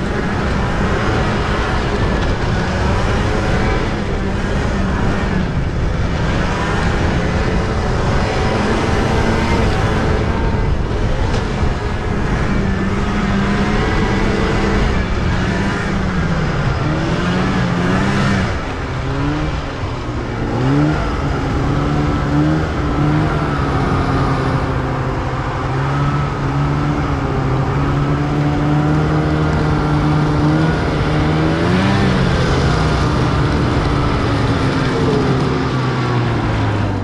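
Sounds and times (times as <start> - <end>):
small vehicle engine running: 0.0 - 37.0.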